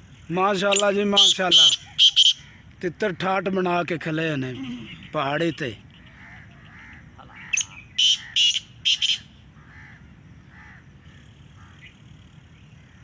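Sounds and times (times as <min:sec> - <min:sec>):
distant bird calls: 0:00.0 - 0:13.0
francolin calling: 0:00.0 - 0:13.0.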